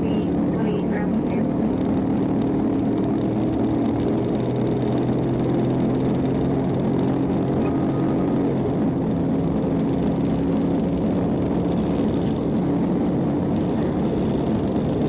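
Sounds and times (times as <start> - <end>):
car engine and road noise: 0.0 - 15.0
low engine hum: 0.0 - 15.0.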